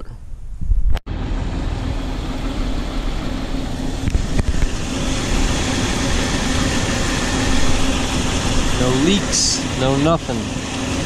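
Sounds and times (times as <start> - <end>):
cooling fan air rush: 0.3 - 11.0
car engine idling: 1.1 - 11.0.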